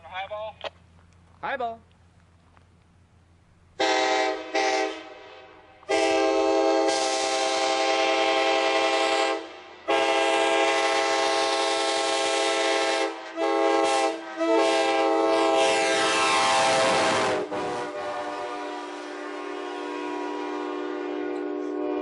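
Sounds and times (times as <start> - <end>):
locomotive air horn blasts: 3.8 - 22.0.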